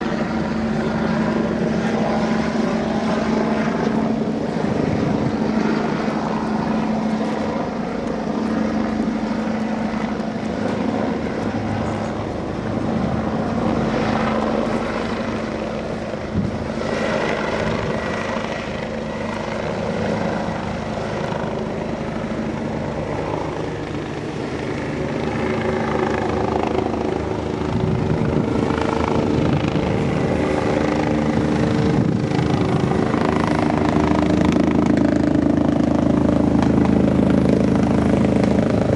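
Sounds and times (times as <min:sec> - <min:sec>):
helicopter rotor and engine hum: 0:00.0 - 0:38.9
rotor downwash buffeting microphone: 0:00.0 - 0:38.9.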